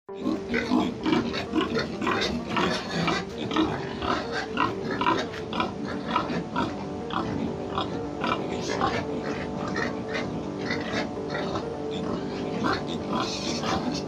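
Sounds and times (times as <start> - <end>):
pigs grunting: 0.1 - 14.0.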